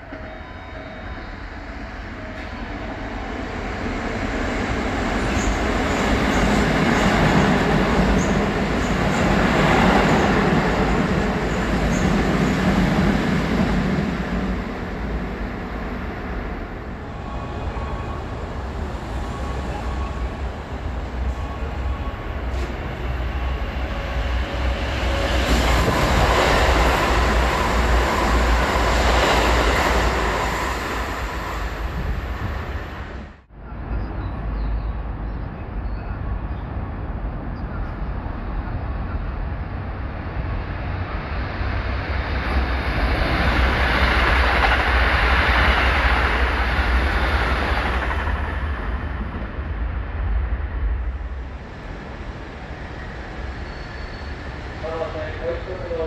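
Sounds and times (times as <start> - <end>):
train passing at speed: 0.0 - 56.0.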